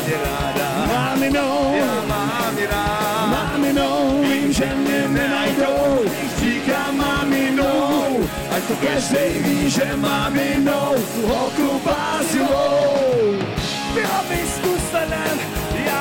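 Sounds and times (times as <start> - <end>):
live rock band: 0.0 - 16.0
man singing: 0.0 - 16.0.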